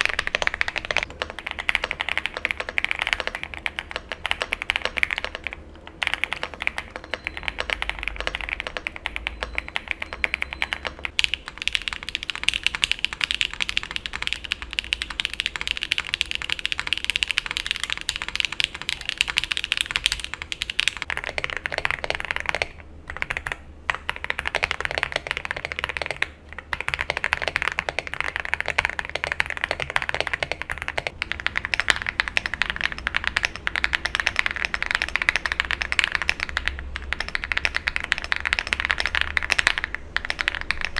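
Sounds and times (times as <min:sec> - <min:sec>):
fast typing on mechanical keyboards: 0:00.0 - 0:40.9.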